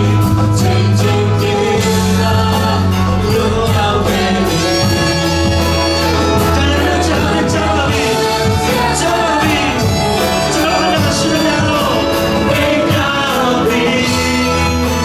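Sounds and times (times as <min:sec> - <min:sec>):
voices singing together: 0:00.0 - 0:15.0
worship band playing: 0:00.0 - 0:15.0.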